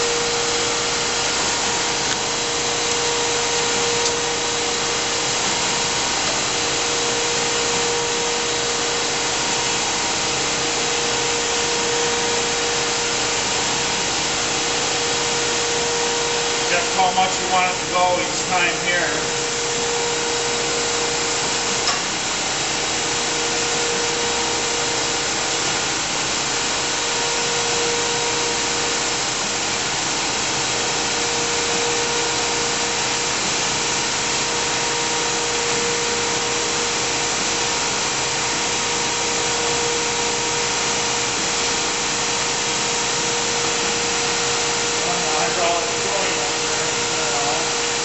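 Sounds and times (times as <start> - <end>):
surface grinder humming and hissing: 0.0 - 48.0.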